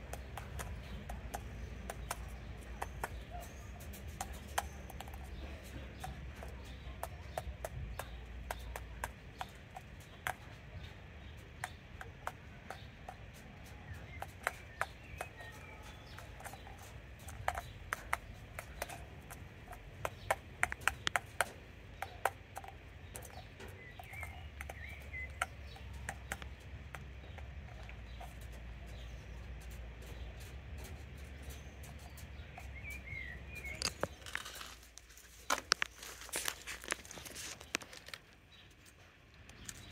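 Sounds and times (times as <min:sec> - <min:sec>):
crow pecking at plastic ball: 0:00.0 - 0:39.9
low steady background hum: 0:00.0 - 0:39.9.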